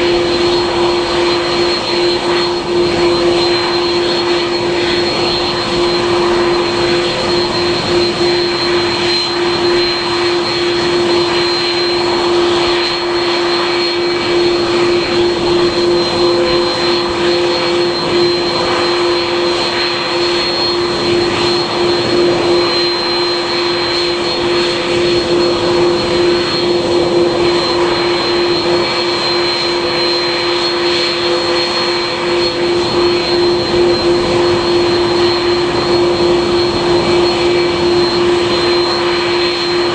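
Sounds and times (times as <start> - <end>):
aircraft engines humming and whining: 0.0 - 39.9.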